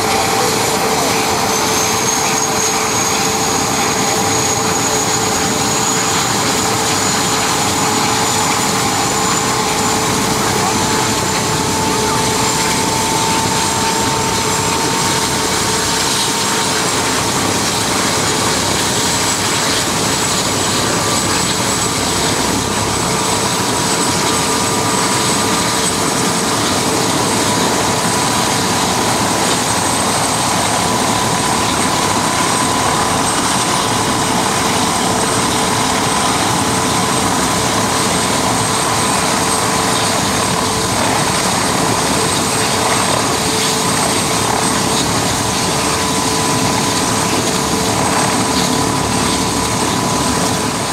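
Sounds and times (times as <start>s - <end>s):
helicopter rotor rushing: 0.0s - 50.9s
helicopter turbine whine: 0.0s - 50.9s.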